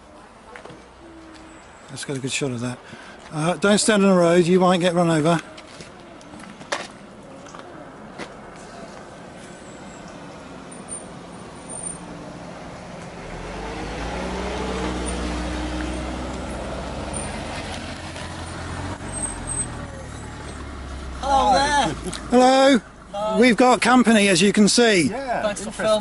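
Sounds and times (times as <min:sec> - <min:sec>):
car approaching and pulling up: 0:00.2 - 0:26.0.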